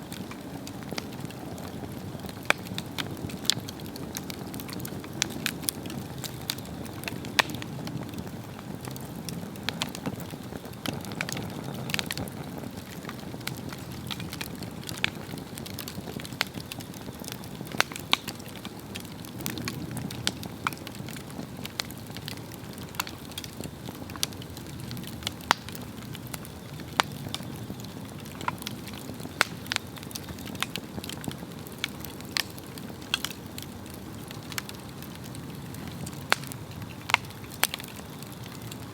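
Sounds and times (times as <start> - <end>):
burning wood crackling and popping: 0.0 - 38.9
fire flame rushing: 0.0 - 38.9.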